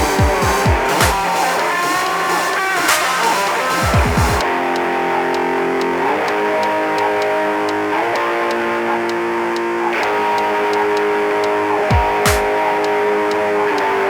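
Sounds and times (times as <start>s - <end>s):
electric guitar chords: 0.0s - 14.0s
ticking beat: 0.0s - 14.0s.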